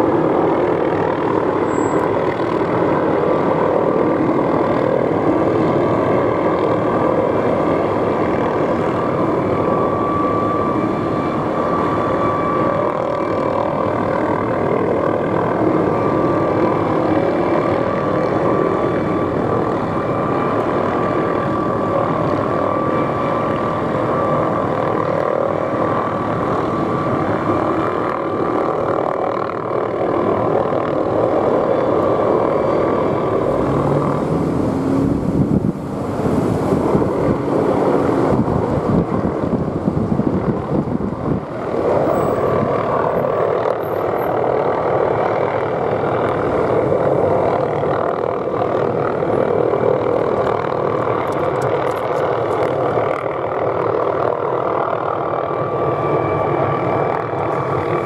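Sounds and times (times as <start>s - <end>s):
helicopter turbine and rotor hum: 0.0s - 58.0s.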